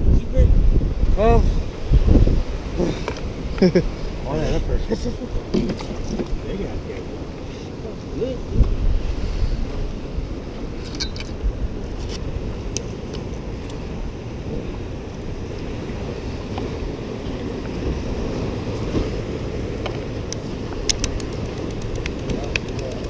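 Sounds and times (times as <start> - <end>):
surf washing against rocks: 0.0 - 23.0
wind buffeting microphone: 0.0 - 23.0.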